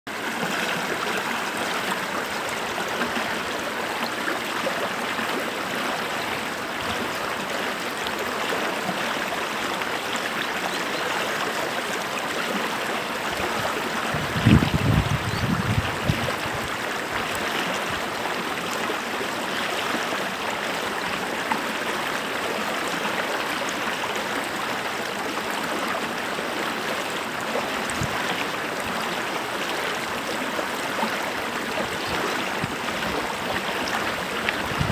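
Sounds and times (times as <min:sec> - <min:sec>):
stream water over rocks: 0:00.1 - 0:34.9.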